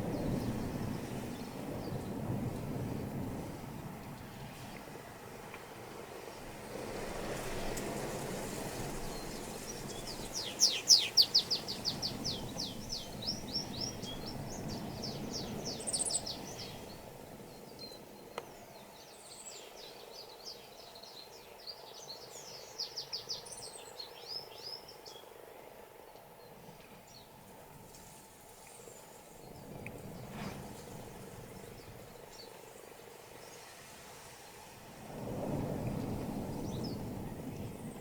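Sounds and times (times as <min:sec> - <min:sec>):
songbird singing: 0:00.0 - 0:05.0, 0:08.7 - 0:27.4, 0:28.6 - 0:33.7, 0:35.7 - 0:38.0.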